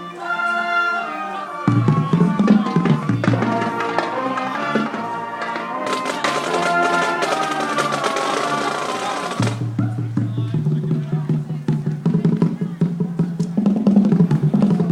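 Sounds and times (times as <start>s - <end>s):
band playing held chords: 0.0s - 14.9s
drum strokes: 1.7s - 14.9s.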